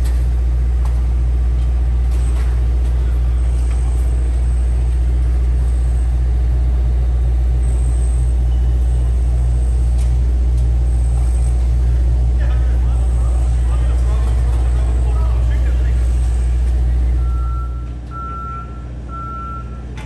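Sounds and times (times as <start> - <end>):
construction machinery engine drone: 0.0 - 20.0.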